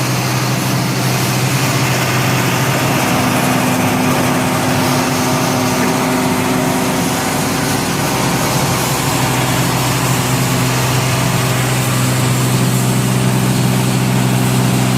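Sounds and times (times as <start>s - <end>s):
milling machine humming and grinding: 0.0s - 14.9s.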